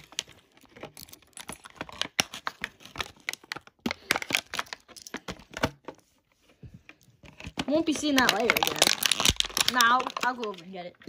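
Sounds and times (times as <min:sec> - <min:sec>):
plastic packaging crinkling: 0:00.0 - 0:05.9, 0:06.9 - 0:11.0.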